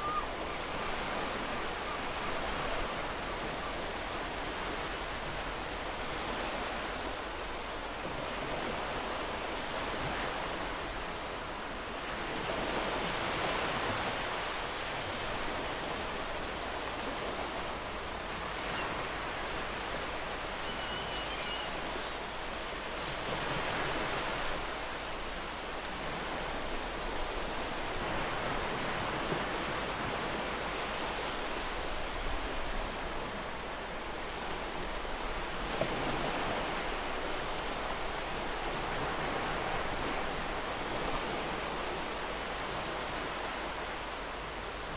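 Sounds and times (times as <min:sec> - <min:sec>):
ocean surf washing onto shore: 0:00.0 - 0:44.9.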